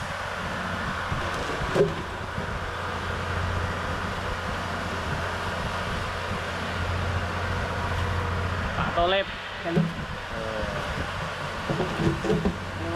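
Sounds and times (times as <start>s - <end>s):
engine humming: 0.0s - 12.9s.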